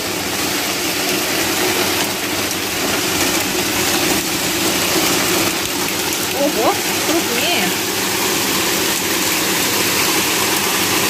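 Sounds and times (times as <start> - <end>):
hail pelting down: 0.0 - 11.0.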